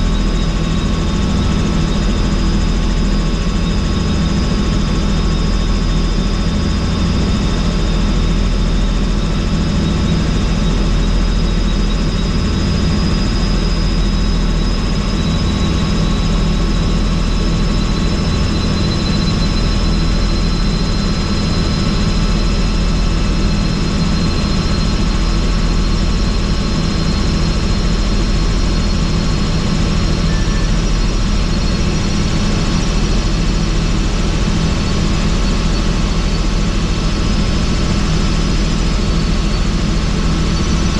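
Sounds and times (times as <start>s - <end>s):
helicopter rotor and engine noise: 0.0s - 40.9s
high turbine whine: 0.0s - 40.9s.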